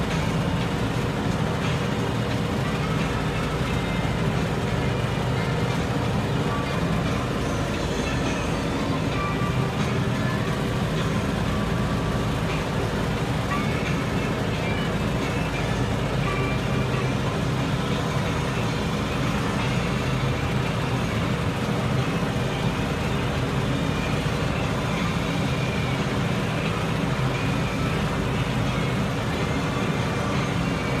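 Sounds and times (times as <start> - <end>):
tractor engine and hay mower: 0.0 - 31.0.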